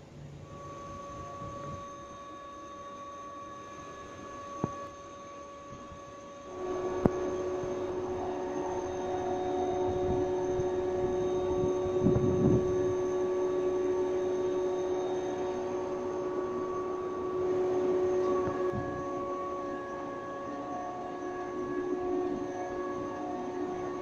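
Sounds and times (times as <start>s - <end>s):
electric train humming: 0.0s - 24.0s
train running noise: 0.3s - 24.0s.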